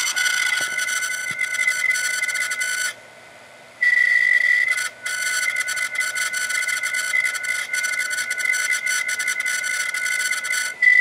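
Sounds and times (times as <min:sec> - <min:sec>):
hard drive squealing: 0:00.0 - 0:03.0, 0:03.8 - 0:11.0.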